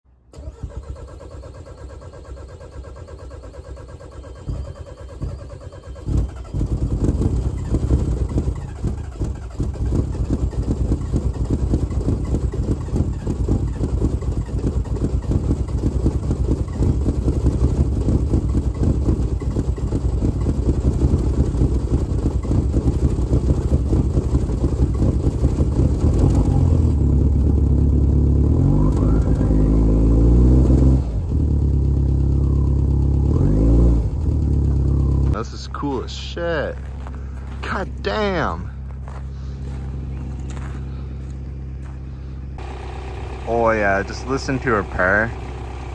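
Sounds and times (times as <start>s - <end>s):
diesel engine cold start chugging: 0.2s - 45.9s.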